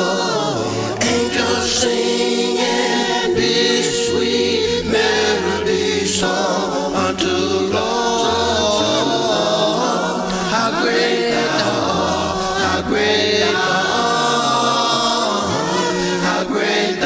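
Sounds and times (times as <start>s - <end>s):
man singing a cappella: 0.0s - 17.0s.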